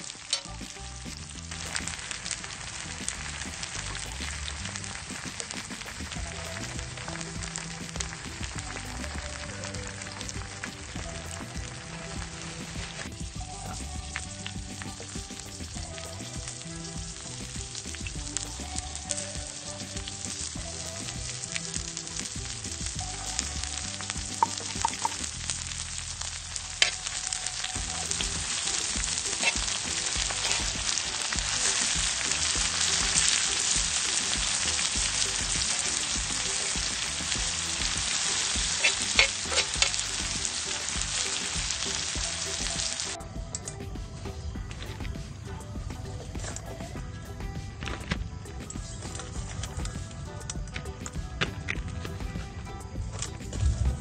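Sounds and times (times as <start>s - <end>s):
food sizzling in hot oil: 0.0s - 43.6s.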